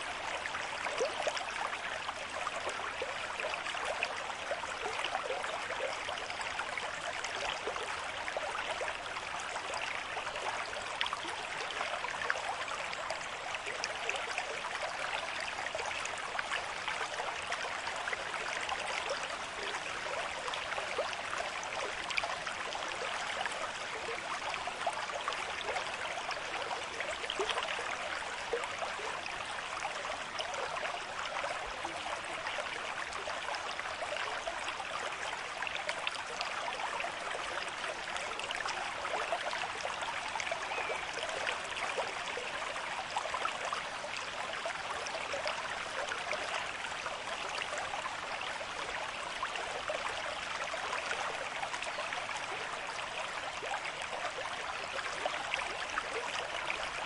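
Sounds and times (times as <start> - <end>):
stream water running over stones: 0.0 - 57.0.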